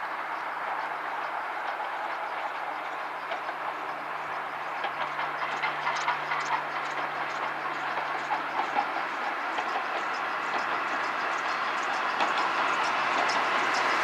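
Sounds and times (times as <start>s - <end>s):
train wheel and rail noise: 0.0s - 14.0s.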